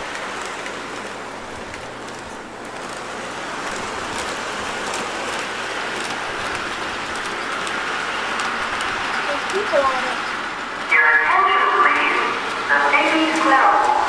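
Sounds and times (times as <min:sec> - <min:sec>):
model train rolling on track: 0:00.0 - 0:14.0.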